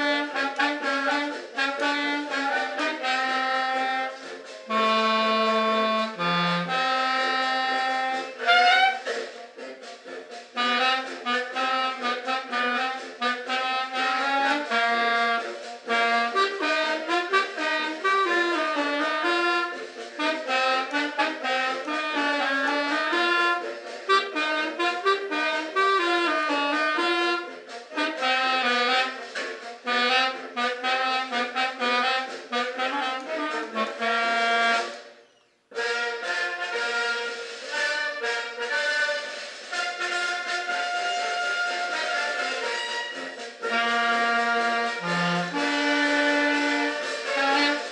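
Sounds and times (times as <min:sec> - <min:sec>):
accordion melody: 0:00.0 - 0:47.9.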